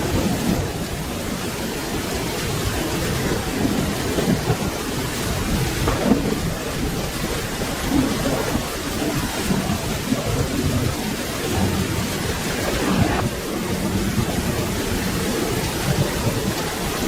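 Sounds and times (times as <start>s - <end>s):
low rumble of thunder: 0.0s - 17.0s
steady rain falling: 0.0s - 17.0s.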